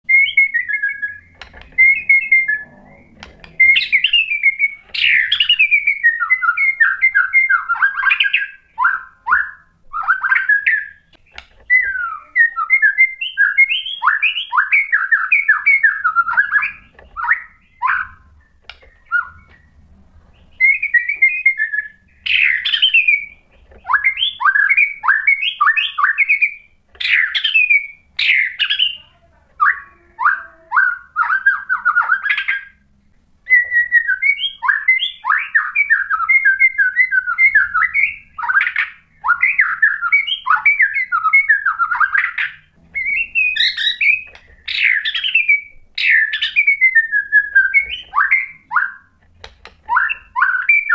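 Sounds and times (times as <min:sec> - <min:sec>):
songbird singing trills: 0:00.0 - 0:49.2, 0:49.8 - 0:50.9.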